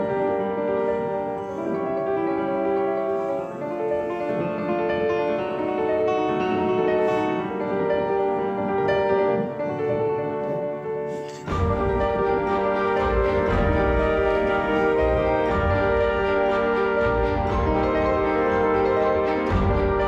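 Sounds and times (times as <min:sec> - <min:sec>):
piano background music: 0:00.0 - 0:20.0.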